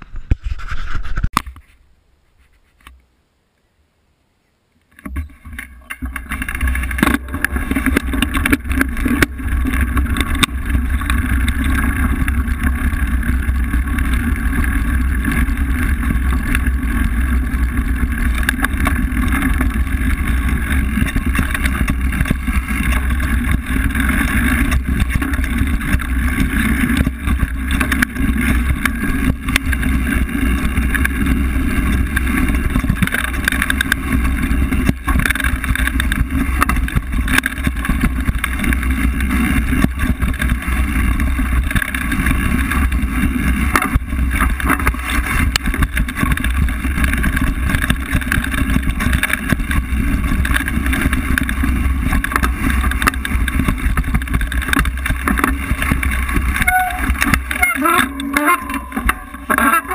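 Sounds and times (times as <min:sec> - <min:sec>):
bike tyres rumbling on gravel: 0:04.9 - 0:59.9.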